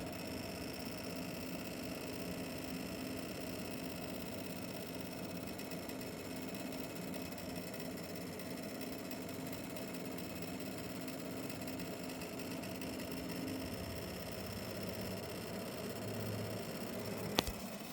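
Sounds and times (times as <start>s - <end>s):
graphics card fast mechanical rattle: 0.0s - 17.9s.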